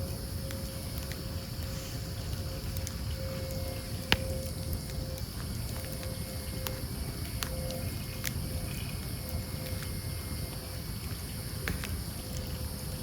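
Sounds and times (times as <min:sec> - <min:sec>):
campfire crackles and pops: 0:00.0 - 0:13.0
low rumble of flames: 0:00.0 - 0:13.0.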